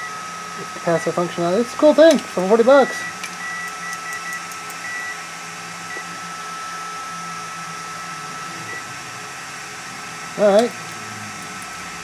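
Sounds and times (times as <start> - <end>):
background whir: 0.0 - 12.0
faint high whine: 0.0 - 12.0.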